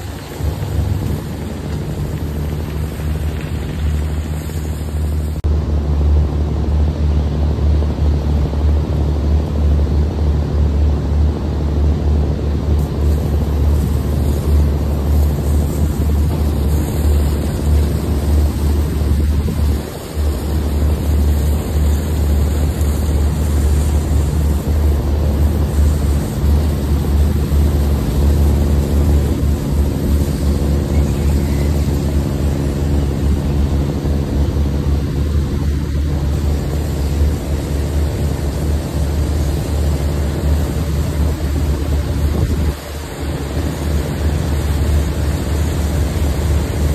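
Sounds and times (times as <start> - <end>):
heavy engine humming: 0.0 - 46.9.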